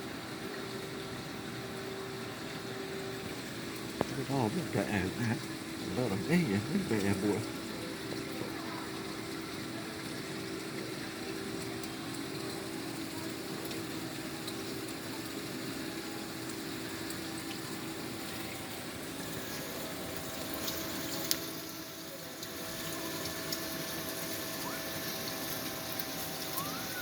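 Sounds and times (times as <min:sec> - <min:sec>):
aquarium filters water rushing: 0:00.0 - 0:27.0
faint steady hum: 0:00.0 - 0:27.0.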